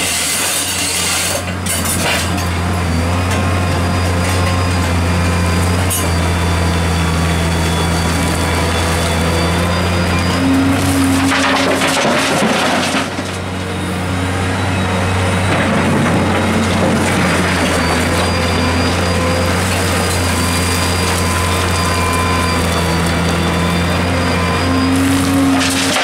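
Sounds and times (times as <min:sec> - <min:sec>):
excavator diesel engine and hydraulics: 0:00.0 - 0:26.0.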